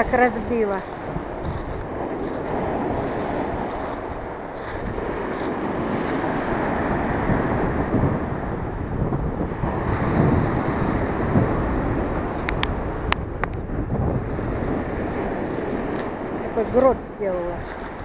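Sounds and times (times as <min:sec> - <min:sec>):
surf breaking on shore: 0:00.0 - 0:18.0
wind buffeting microphone: 0:00.0 - 0:18.0.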